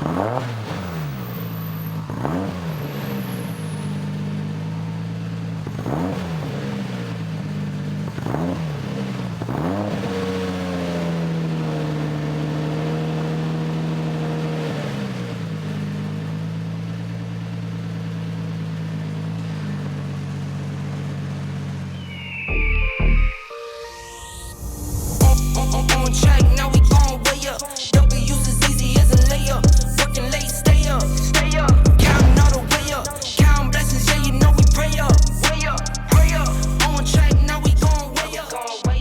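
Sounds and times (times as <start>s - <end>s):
car engine idling and revving: 0.0s - 22.5s, 24.6s - 39.0s.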